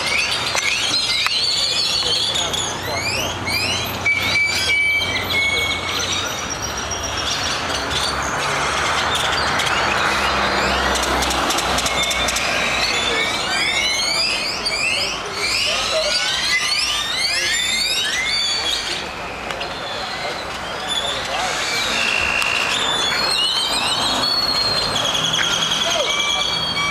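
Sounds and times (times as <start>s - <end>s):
flock of birds calling: 0.0s - 26.9s.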